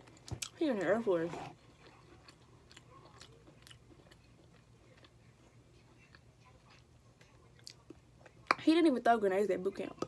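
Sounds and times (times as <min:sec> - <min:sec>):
faint chewing: 0:00.0 - 0:08.6.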